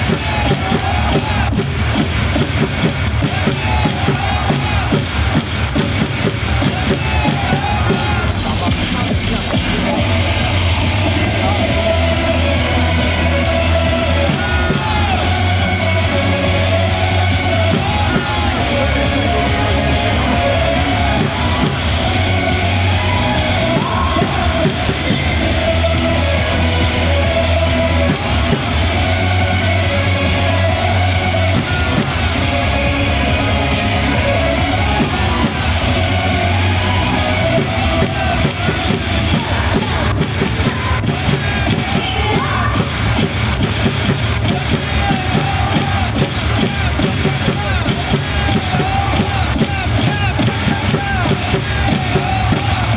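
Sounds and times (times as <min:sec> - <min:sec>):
cheer song with bass beat: 0:00.0 - 0:52.9
people singing and yelling: 0:00.0 - 0:52.9.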